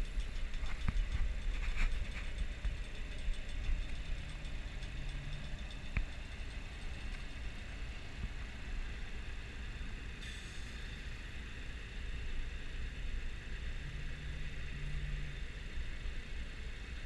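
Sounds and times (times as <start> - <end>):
boat engine idling: 0.0 - 13.8.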